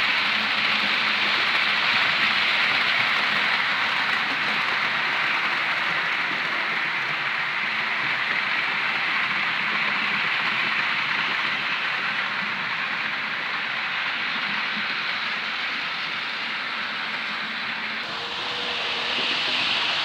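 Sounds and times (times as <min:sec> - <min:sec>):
model train whirring on track: 0:00.0 - 0:20.0.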